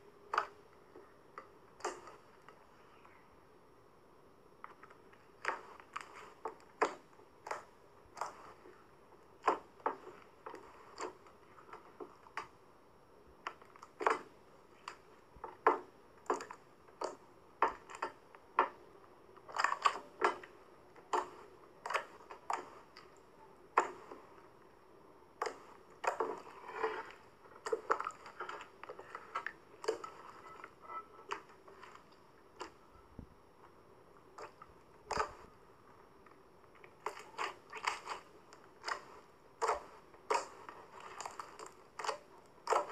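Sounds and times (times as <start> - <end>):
slime squishing: 0.3 - 3.1, 4.7 - 12.7, 13.4 - 42.9.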